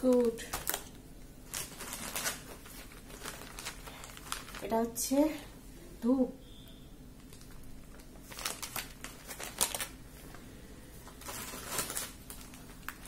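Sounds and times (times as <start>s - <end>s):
plastic bags rustling and crinkling: 0.0s - 5.4s, 7.2s - 13.0s.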